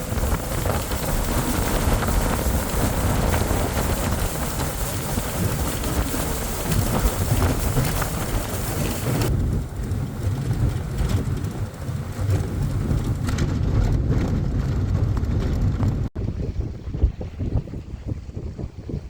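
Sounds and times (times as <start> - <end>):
motorboat motor rumbling: 0.0 - 19.0
wind buffeting microphone: 0.0 - 19.0.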